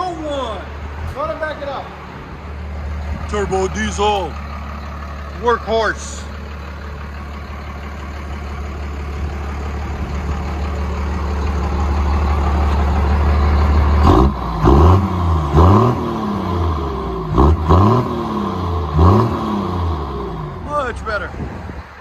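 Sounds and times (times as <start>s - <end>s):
diesel engine exhaust revving: 0.0s - 22.0s.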